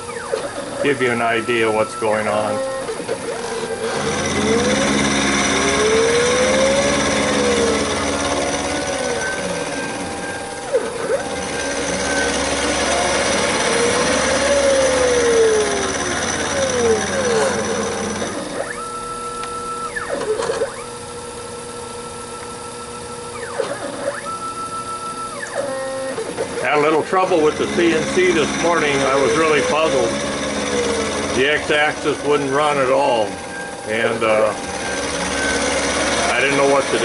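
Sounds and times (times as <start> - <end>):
gliding machine whine: 0.0 - 37.0
milling machine cutting metal: 0.0 - 37.0.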